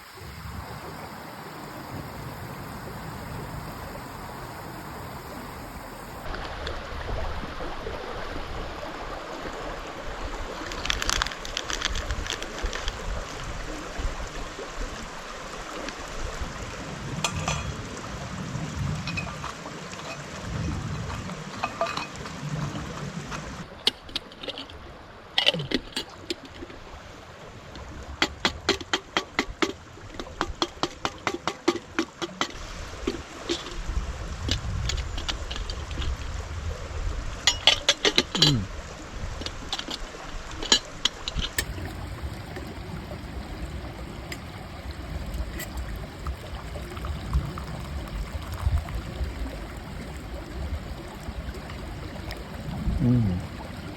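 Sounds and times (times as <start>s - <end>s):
small stream running: 0.0s - 53.9s.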